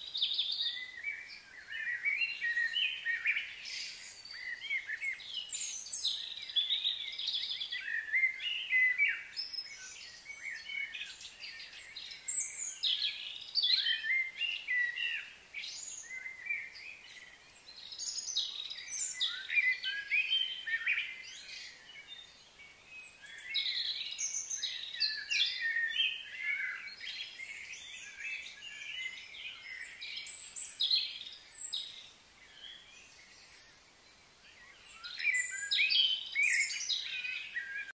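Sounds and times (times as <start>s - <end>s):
birds singing and calling: 0.0s - 37.9s.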